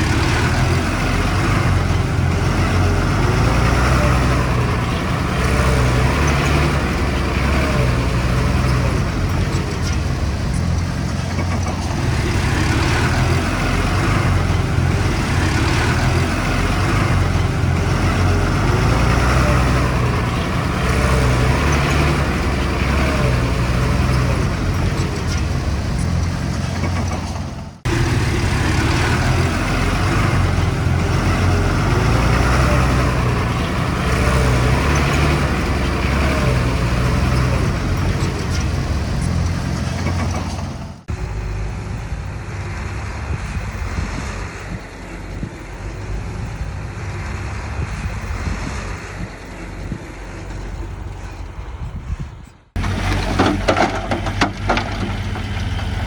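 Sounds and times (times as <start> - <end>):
heavy diesel engine running: 0.0 - 51.9, 52.8 - 56.0.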